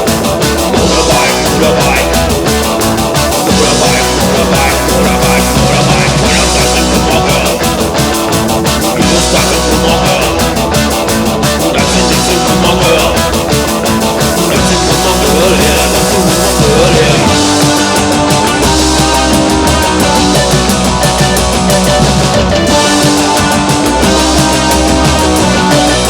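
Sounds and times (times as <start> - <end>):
fast drumbeat: 0.0 - 26.0
punk rock music: 0.0 - 26.0.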